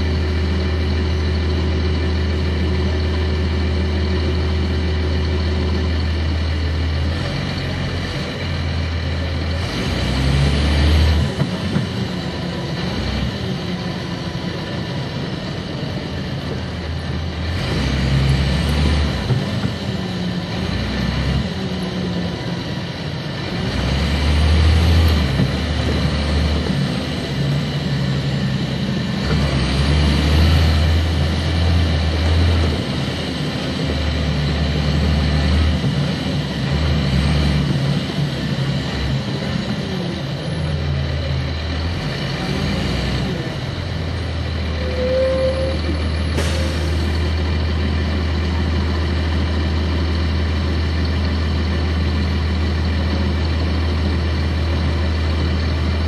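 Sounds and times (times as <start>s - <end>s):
bus diesel engine pulling: 0.0s - 56.0s.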